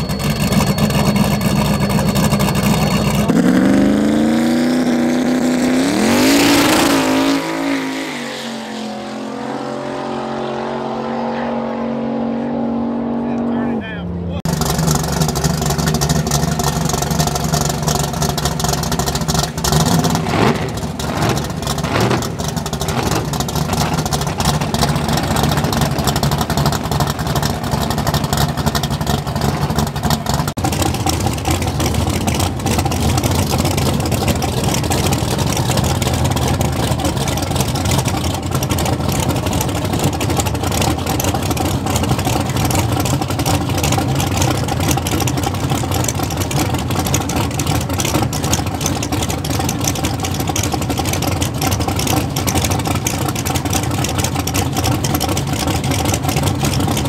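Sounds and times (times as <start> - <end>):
race car engines idling: 0.0 - 4.0, 13.1 - 57.0
engine revving: 0.0 - 57.0.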